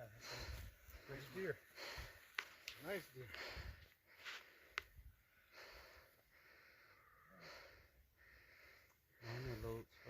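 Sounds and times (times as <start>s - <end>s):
soft breathing: 0.0s - 10.0s.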